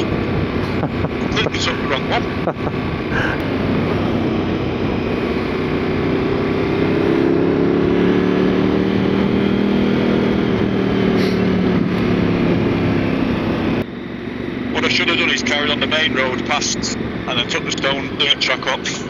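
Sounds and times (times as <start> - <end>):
motorcycle engine running: 0.0 - 19.0
wind and road rush: 0.0 - 19.0.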